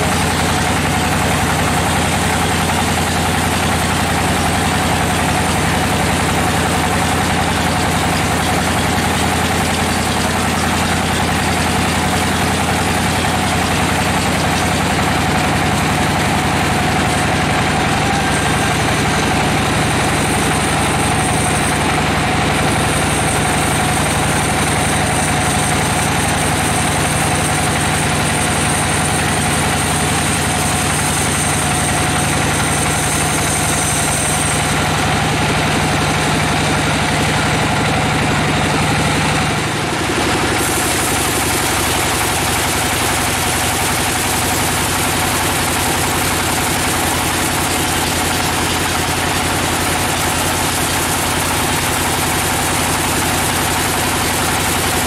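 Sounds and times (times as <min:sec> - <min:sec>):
bandsaw sawing through log: 0:00.0 - 0:55.0.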